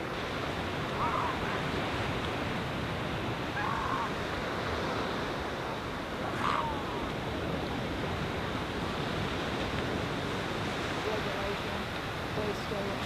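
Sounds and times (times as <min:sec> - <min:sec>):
surf breaking on a beach: 0:00.0 - 0:13.0.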